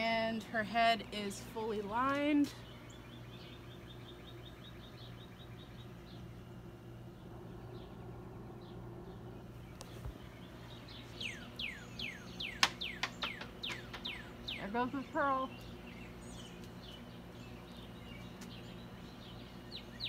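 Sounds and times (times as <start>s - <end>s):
songbirds chirping: 0.0s - 20.0s
steady low hum: 0.0s - 20.0s.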